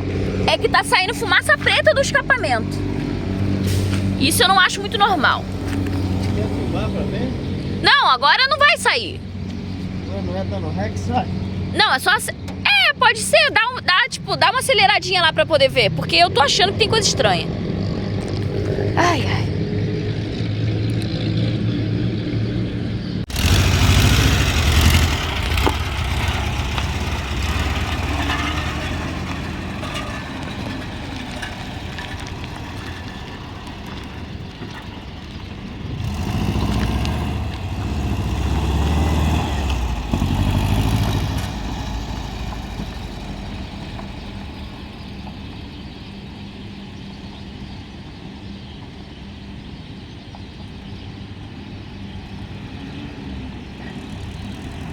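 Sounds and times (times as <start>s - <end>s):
van engine revving and idling: 0.0s - 12.7s, 15.3s - 46.2s, 52.6s - 54.9s.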